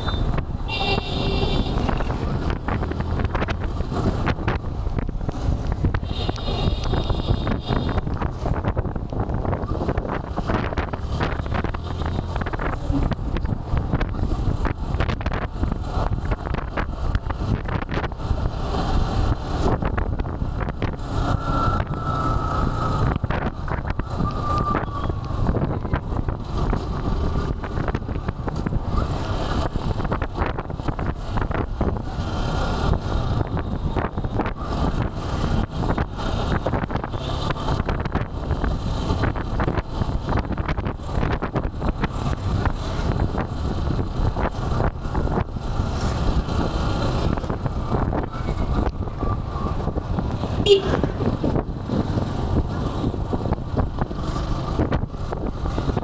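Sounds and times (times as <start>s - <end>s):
motorcycle rumble: 0.0s - 56.0s
road traffic: 0.0s - 56.0s
wind buffeting microphone: 0.0s - 56.0s.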